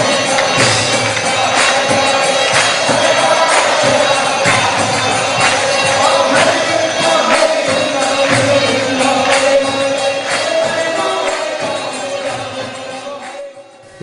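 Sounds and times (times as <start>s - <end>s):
sharp percussive strokes: 0.0s - 13.4s
group chanting over drone: 0.0s - 13.7s.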